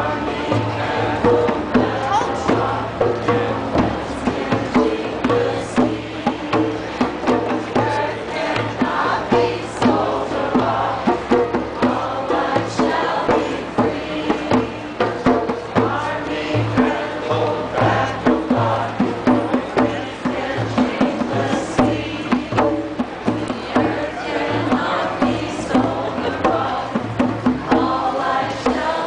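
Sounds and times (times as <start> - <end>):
group singing a chant: 0.0 - 29.0
steady drumbeat: 0.0 - 29.0.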